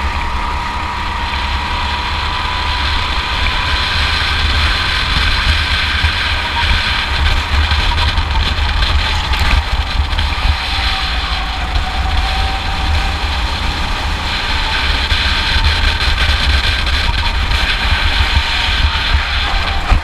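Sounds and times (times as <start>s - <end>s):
go-kart engine running: 0.0s - 20.0s
wind buffeting microphone: 0.0s - 20.0s.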